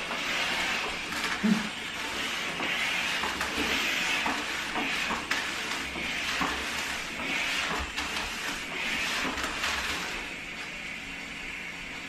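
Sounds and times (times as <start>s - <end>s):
mop pad swishing across tiles: 0.0s - 11.0s
steam hissing: 0.0s - 12.0s.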